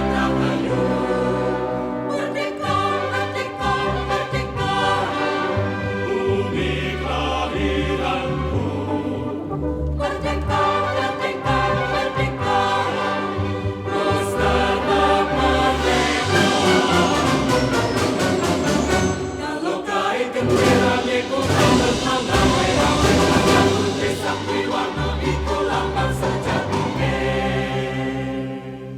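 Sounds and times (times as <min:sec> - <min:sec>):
orchestra playing: 0:00.0 - 0:28.2
choir singing: 0:00.0 - 0:28.9.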